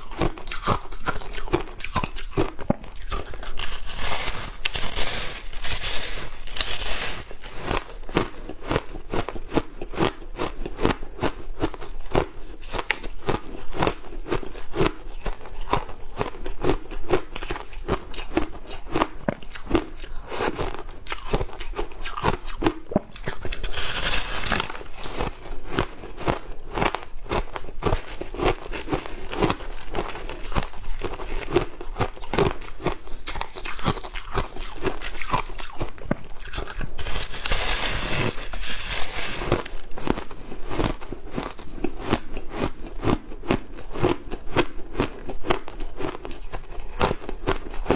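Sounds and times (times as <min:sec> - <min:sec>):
ice crunching between teeth: 0:00.0 - 0:47.9.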